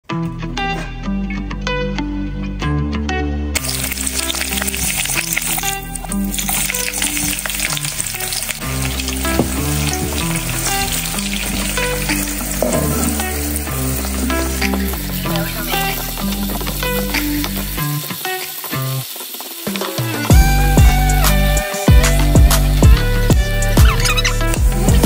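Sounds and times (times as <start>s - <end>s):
onion sizzling in hot oil: 3.6s - 24.8s.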